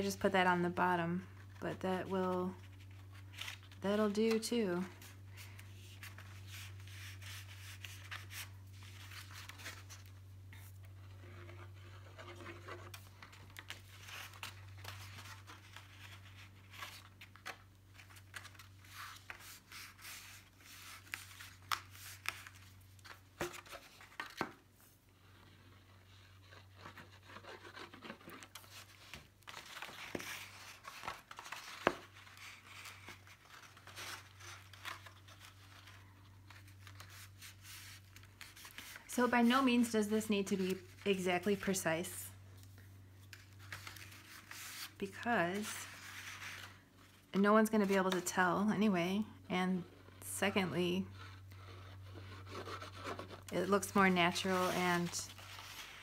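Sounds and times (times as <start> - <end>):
paper rustling and crinkling: 2.2 - 41.8, 42.5 - 48.2, 51.1 - 56.0.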